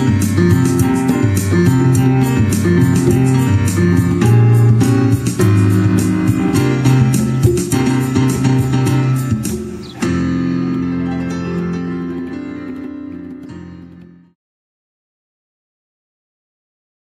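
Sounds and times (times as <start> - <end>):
instrumental keyboard band music: 0.0 - 14.4.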